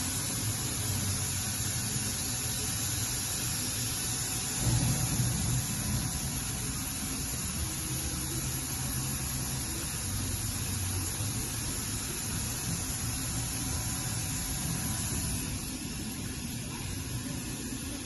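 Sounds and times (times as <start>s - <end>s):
machining center running: 0.0s - 18.0s.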